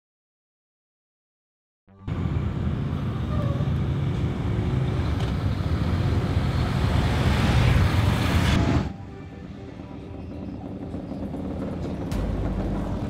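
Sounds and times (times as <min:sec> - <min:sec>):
motorcycles riding past: 0:02.1 - 0:13.0.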